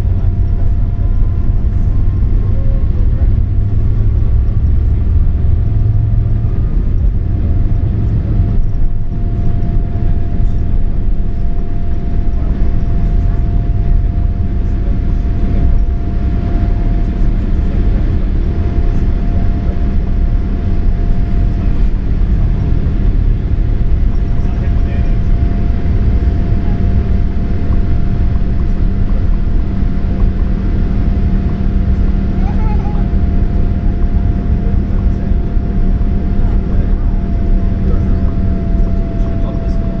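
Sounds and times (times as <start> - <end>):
jet engine rumble in cabin: 0.0 - 40.0.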